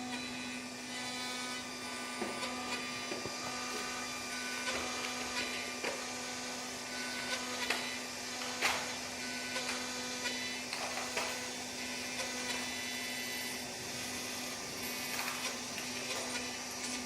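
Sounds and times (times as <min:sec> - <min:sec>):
cnc milling machine hum and whine: 0:00.0 - 0:17.0.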